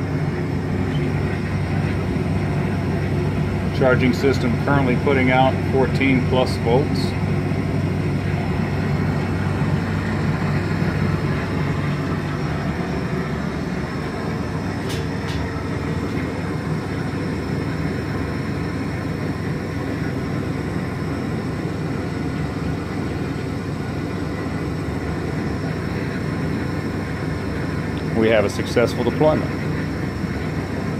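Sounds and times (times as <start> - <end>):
generator humming: 0.0 - 30.9.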